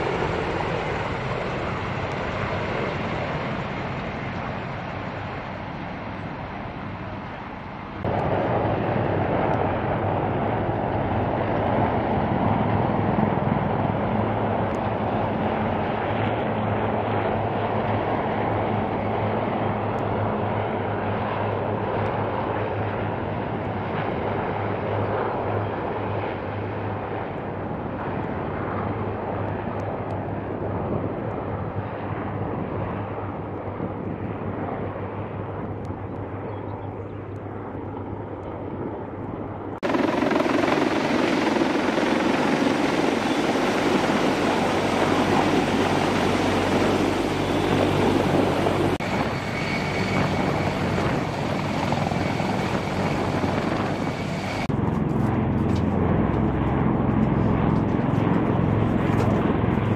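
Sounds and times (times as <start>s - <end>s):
helicopter hovering overhead: 0.0s - 59.9s
helicopter rotors and turbines: 0.0s - 59.9s.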